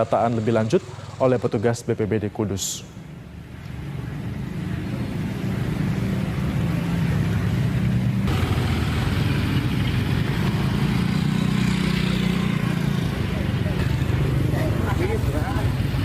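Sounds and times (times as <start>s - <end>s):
road traffic noise: 0.0s - 16.0s
vehicle engines running: 0.0s - 16.0s.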